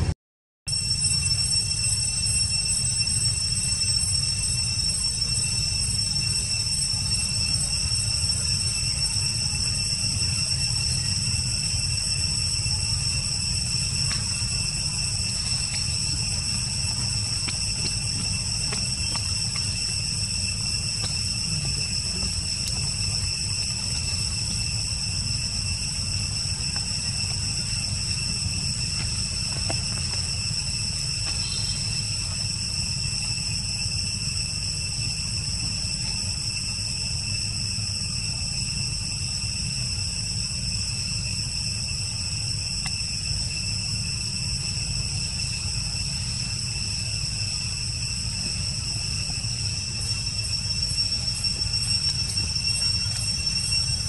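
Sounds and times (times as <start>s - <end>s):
insect chorus: 0.7s - 54.0s.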